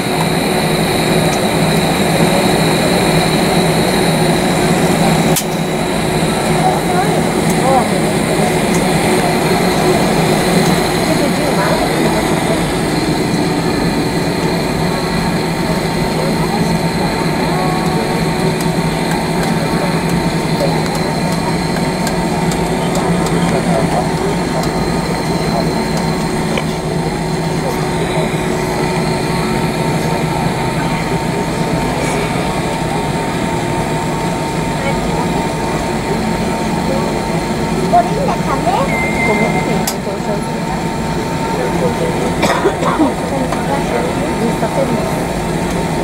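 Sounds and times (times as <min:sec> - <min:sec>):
jet engine hum with whine: 0:00.0 - 0:46.0.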